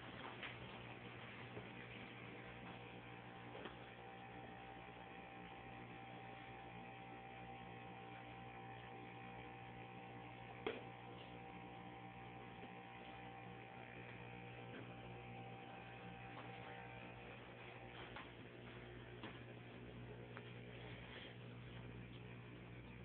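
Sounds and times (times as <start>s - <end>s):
electrical hum with high whine: 0.0s - 23.0s.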